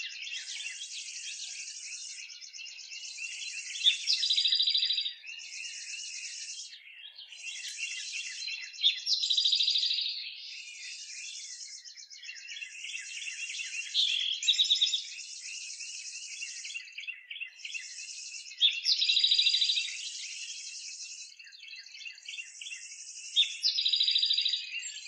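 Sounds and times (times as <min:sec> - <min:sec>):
birds chirping and singing: 0:00.0 - 0:25.0
loud bird song phrase: 0:00.0 - 0:25.0.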